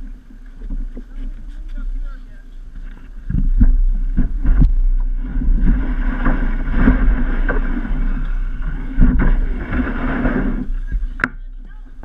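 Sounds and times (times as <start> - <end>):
kayak hull rumbling over boards: 0.0 - 12.0
kayak knocking and rattling: 0.0 - 12.0.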